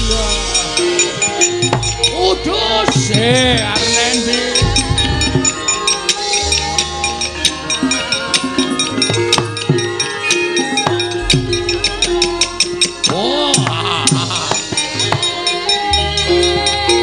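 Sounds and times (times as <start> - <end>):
hand drum strokes: 0.0 - 17.0
held metallic tones: 0.0 - 17.0.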